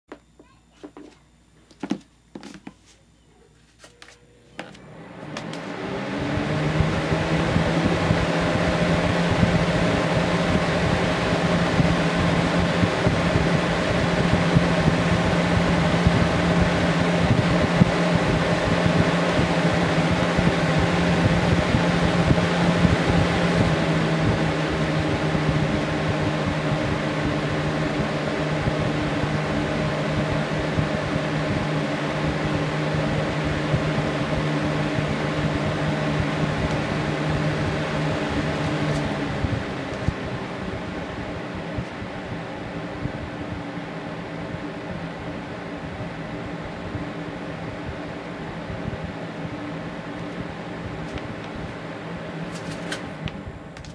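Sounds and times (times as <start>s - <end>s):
fan motor hum: 0.1s - 53.9s
fan air rush: 0.8s - 53.9s.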